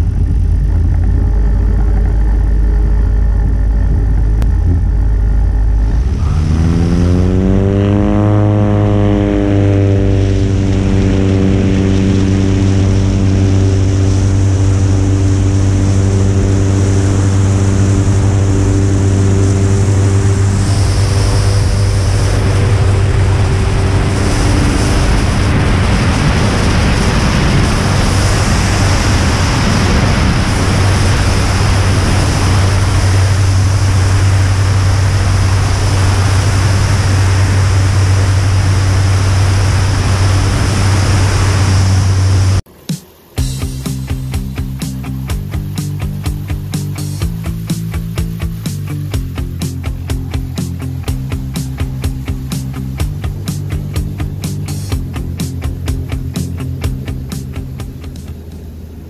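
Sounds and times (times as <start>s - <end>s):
air rushing over microphone: 0.0s - 59.0s
propeller aircraft engine: 0.0s - 59.0s.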